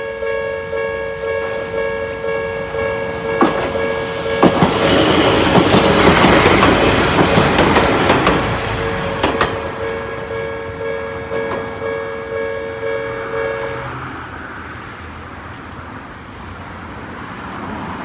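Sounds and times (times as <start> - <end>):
level crossing warning bell: 0.0 - 14.6.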